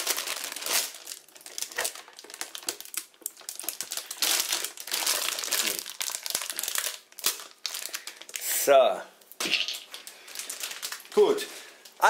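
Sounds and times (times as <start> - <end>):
plastic pouch crinkling: 0.0 - 8.6, 9.6 - 12.0.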